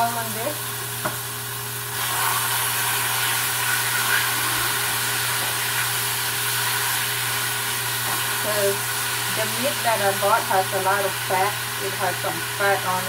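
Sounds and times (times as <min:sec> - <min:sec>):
beef sizzling in a hot pan: 0:00.0 - 0:13.0.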